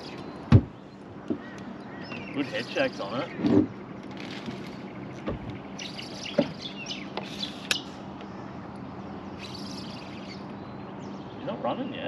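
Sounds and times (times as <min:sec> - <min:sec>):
birds chirping and calling: 0:00.0 - 0:12.0
steady low hum: 0:00.0 - 0:12.0.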